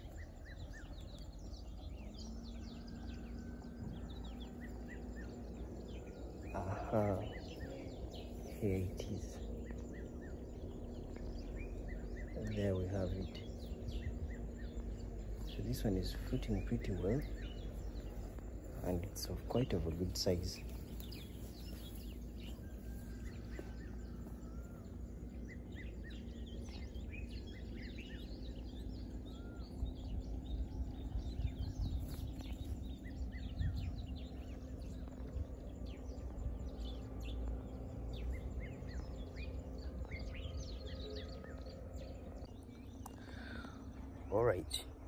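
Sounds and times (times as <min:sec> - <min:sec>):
faint steady hum: 0:00.0 - 0:45.0
low outdoor rumble: 0:00.0 - 0:45.0
wild birds chirping: 0:00.0 - 0:45.0.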